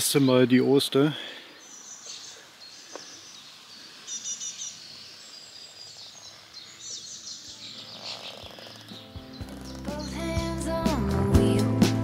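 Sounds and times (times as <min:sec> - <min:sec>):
songbirds chirping and trilling: 0:00.0 - 0:10.7.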